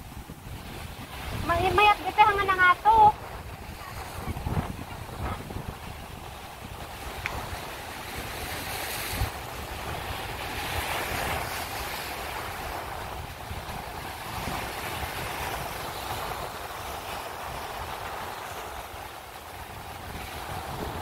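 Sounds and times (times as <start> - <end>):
waves washing over rocks: 0.0 - 21.0
wind buffeting microphone: 0.0 - 21.0.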